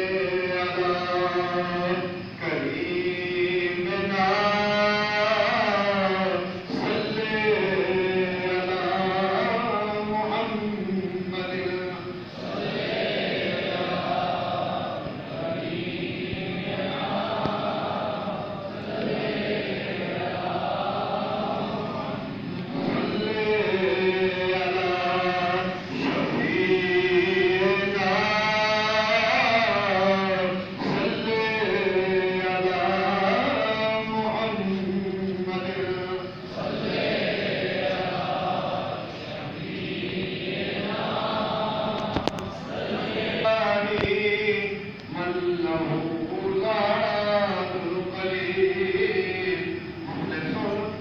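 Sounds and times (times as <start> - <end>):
man chanting: 0.0 - 51.0.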